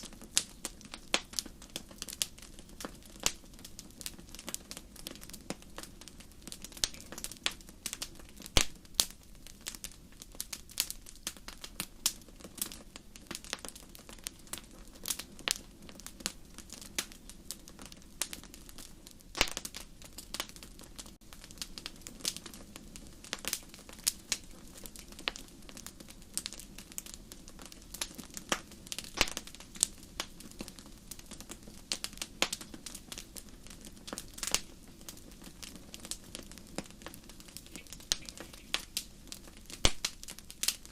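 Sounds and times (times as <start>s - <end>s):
fire crackling and popping: 0.0s - 40.9s
rush of flames: 0.0s - 40.9s.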